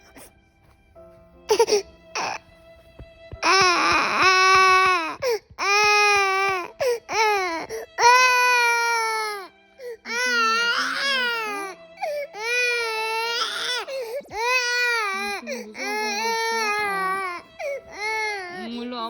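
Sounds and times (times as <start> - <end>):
soft background music: 0.0 - 19.0
baby crying: 1.5 - 2.4, 3.4 - 18.8.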